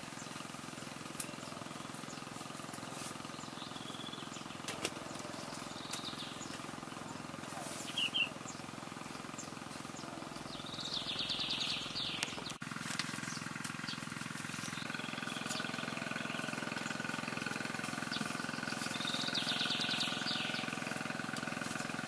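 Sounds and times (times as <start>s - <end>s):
outdoor background hum: 0.0s - 22.0s.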